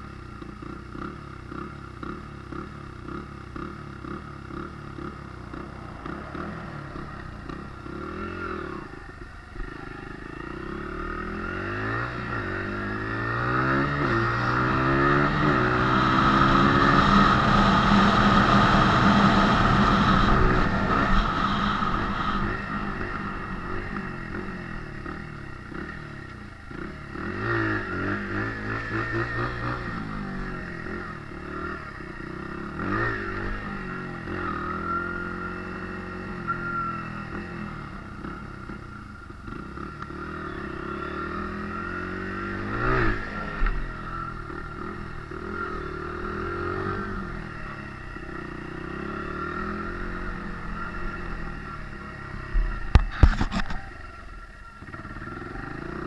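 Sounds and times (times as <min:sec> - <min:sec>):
dirt bike engine revving: 0:01.0 - 0:56.0.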